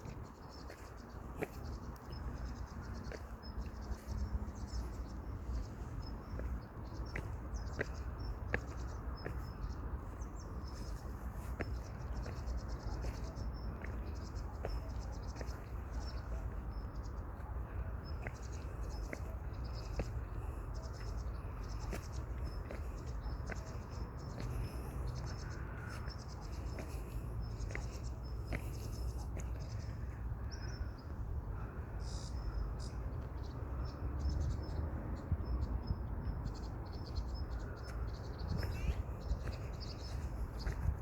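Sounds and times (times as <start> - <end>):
footsteps on a path: 0.0 - 31.8, 37.0 - 41.0.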